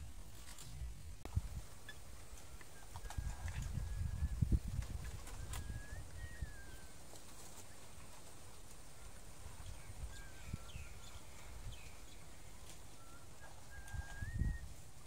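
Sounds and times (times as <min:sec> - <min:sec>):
wind rumble on microphone: 0:00.0 - 0:07.2, 0:07.8 - 0:15.0
bird calls and chirps: 0:01.8 - 0:15.0.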